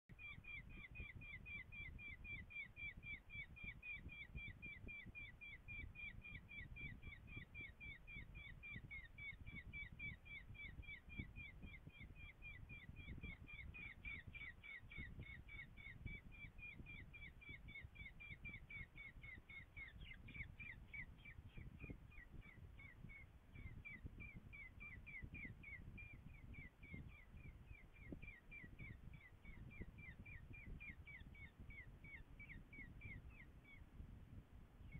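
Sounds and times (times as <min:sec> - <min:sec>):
falcon chick begging calls: 0:00.2 - 0:33.8.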